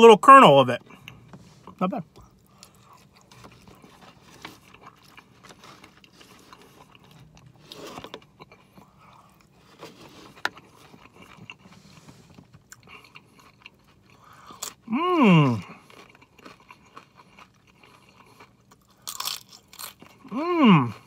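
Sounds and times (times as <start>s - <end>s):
man chewing food: 0.8s - 21.0s.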